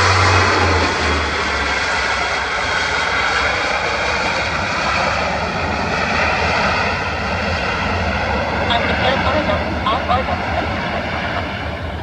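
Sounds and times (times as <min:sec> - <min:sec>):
turboprop engines droning: 0:00.0 - 0:12.0.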